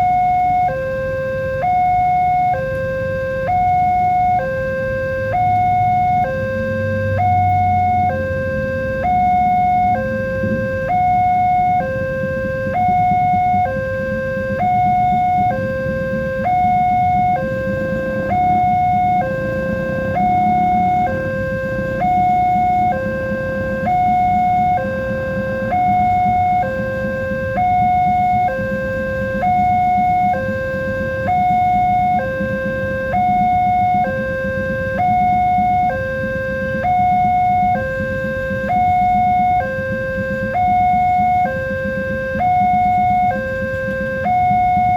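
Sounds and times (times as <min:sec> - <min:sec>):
two-tone crossing alarm: 0:00.0 - 0:44.9.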